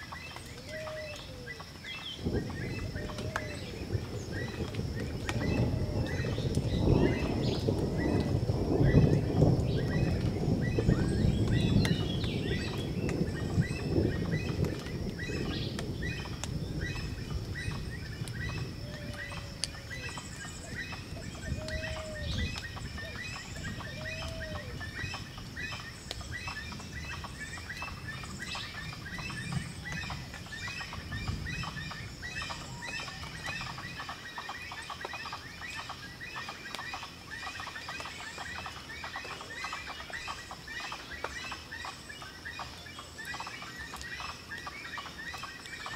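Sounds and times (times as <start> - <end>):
low arching calls: 0.0 - 45.9.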